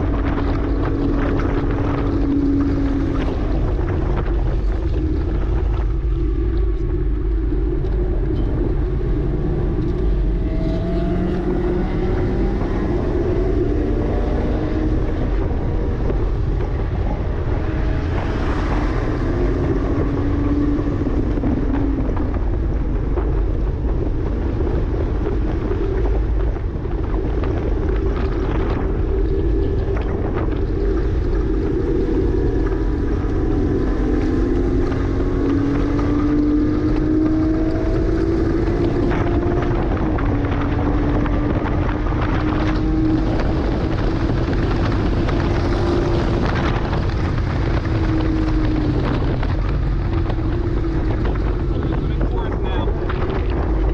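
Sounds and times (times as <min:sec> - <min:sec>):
car engine revving: 0:00.0 - 0:53.9
wind and road noise: 0:00.0 - 0:53.9.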